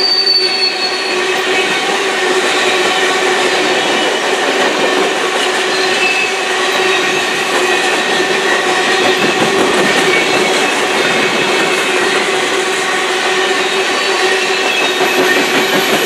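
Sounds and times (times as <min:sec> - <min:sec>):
freight train wheels rolling on rails: 0:00.0 - 0:16.0.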